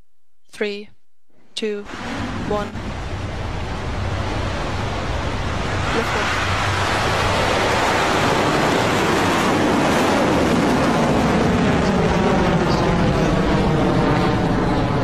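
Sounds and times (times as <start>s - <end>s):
rocket engines roaring: 1.8s - 15.0s.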